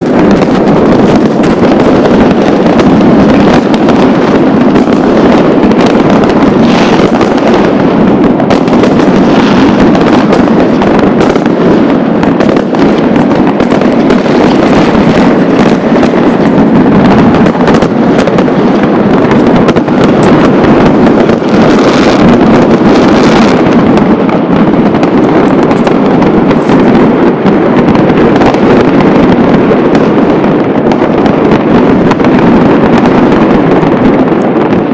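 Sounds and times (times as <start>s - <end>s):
barrage of fireworks and firecrackers: 0.0s - 34.9s.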